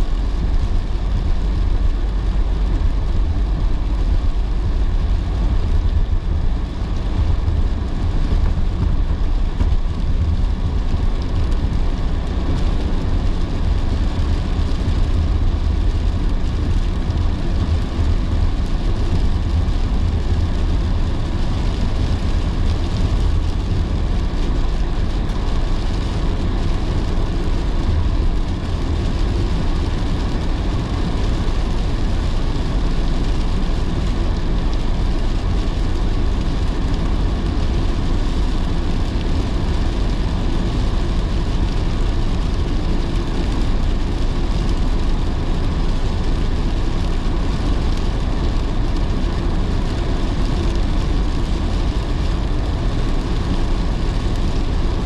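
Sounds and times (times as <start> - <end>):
car road and engine noise: 0.0 - 55.0
rain hissing on car: 0.0 - 55.0.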